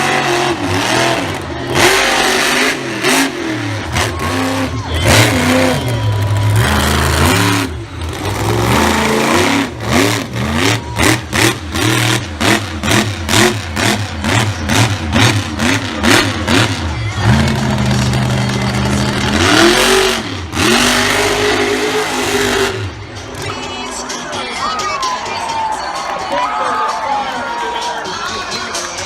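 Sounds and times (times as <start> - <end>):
truck engine revving: 0.0 - 24.5.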